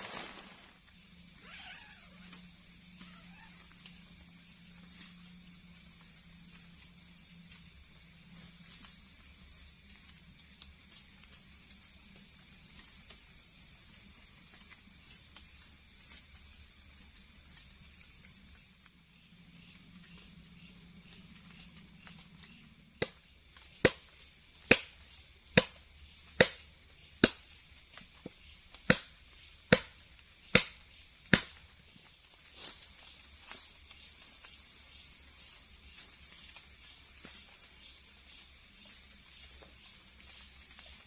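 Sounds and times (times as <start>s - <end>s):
night insects chirring: 0.0s - 41.0s.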